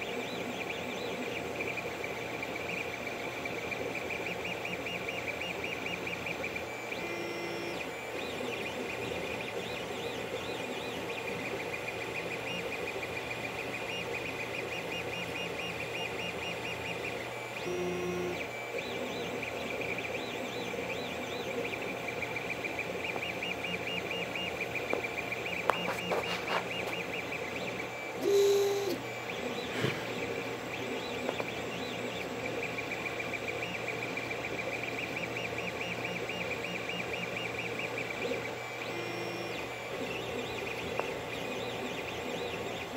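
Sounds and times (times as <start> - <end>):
steady low hum: 0.0 - 42.9
stepper motors chirping: 0.0 - 42.9.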